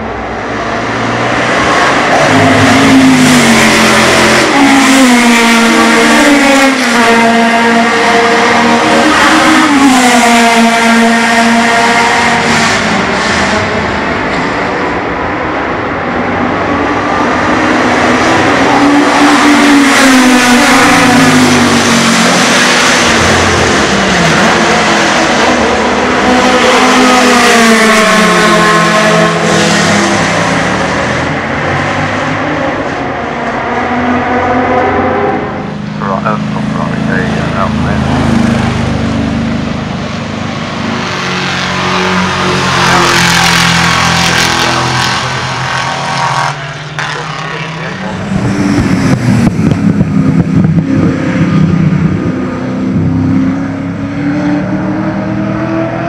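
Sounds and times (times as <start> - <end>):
racing car engines revving past: 0.1 - 56.0.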